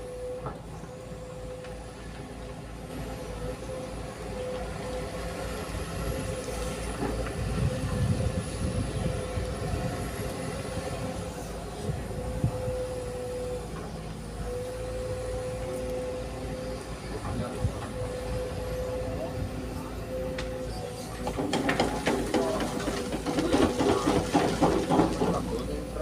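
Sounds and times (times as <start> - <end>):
heavy diesel machinery whining: 0.0 - 26.0.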